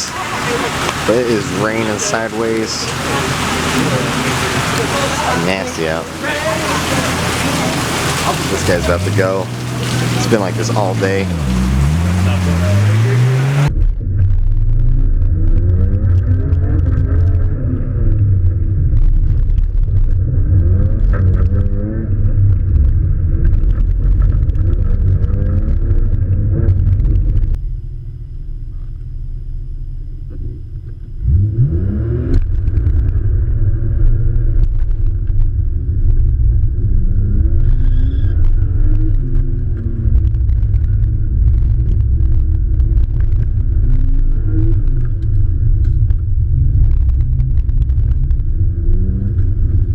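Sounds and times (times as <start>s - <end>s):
muffled car engine revving: 0.0s - 49.9s.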